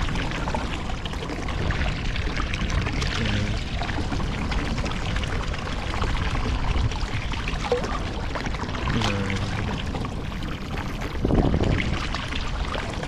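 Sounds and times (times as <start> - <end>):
sea water washing along hull: 0.0 - 13.0
water sloshing in bait well: 0.0 - 13.0.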